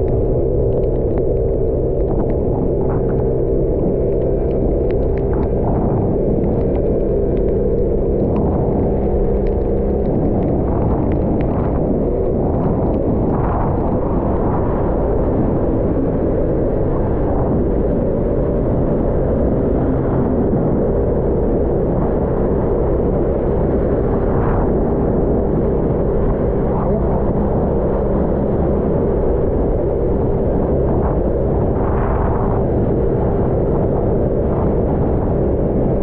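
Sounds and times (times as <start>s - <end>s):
wind rumble on microphone: 0.0s - 36.0s.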